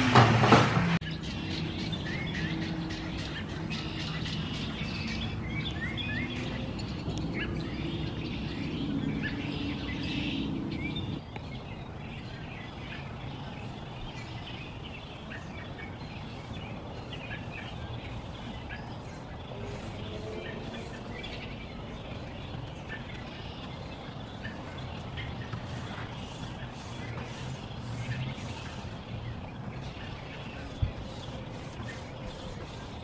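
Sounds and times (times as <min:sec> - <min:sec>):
outdoor background noise: 0:00.0 - 0:33.0
small birds chirping: 0:01.0 - 0:33.0.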